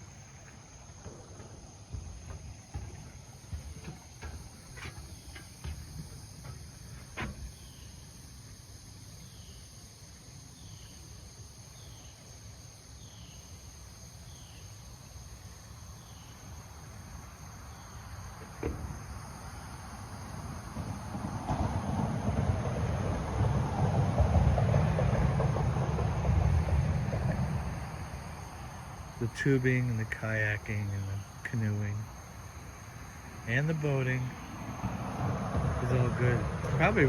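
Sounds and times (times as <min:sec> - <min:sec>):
high insect drone: 0:00.0 - 0:37.0
low rumble of wind: 0:00.0 - 0:37.0.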